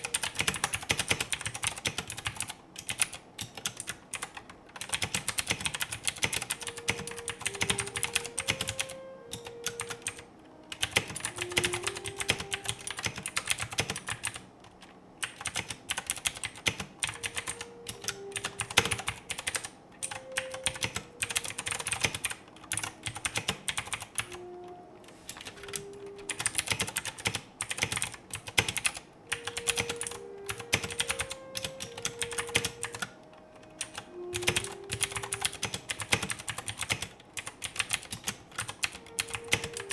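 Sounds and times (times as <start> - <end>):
mechanical keyboard typing clicks: 0.0 - 39.9.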